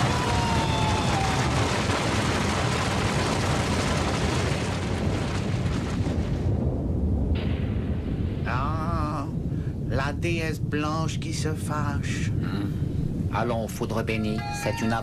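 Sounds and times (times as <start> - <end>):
avalanche rumble: 0.0 - 15.0.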